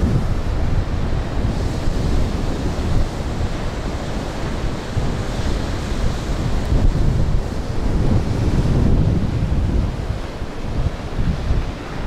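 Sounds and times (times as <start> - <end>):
surf breaking on shore: 0.0 - 12.0
wind rumbling on microphone: 0.0 - 12.0.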